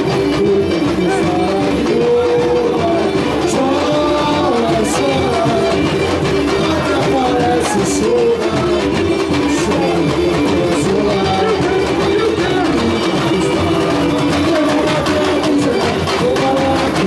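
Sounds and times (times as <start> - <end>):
band playing carnival music over loudspeakers: 0.0 - 17.0.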